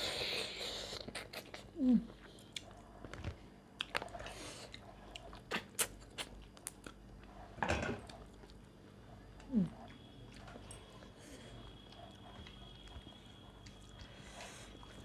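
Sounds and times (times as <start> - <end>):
chewing and mouth clicks: 1.0 - 7.3, 8.0 - 15.0.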